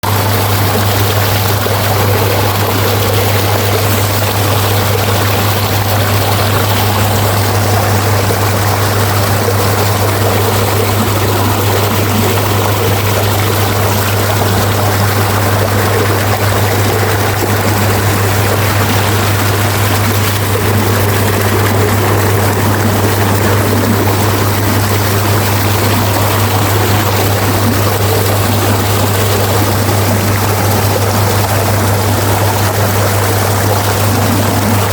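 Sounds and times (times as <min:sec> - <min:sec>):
water rushing in a channel: 0:00.0 - 0:34.9.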